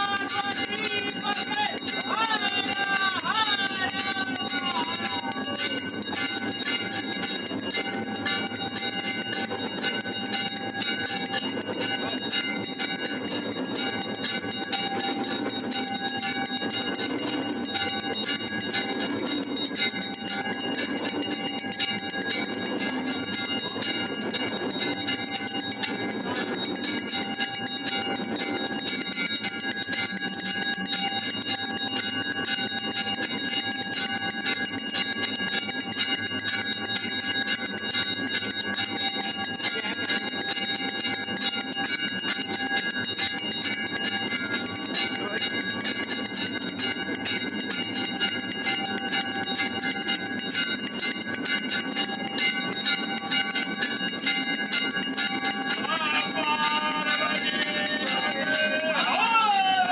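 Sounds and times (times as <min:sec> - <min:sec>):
temple bells ringing: 0:00.0 - 0:59.9.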